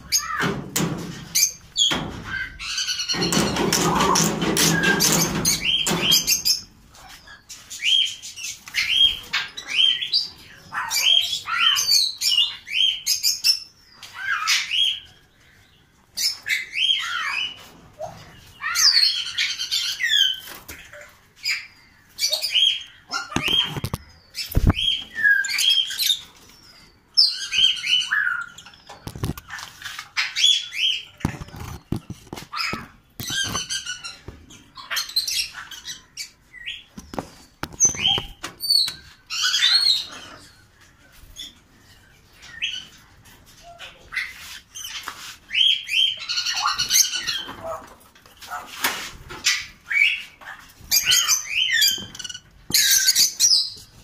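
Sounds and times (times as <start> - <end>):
parrots chirping and squawking: 0.0 - 54.0.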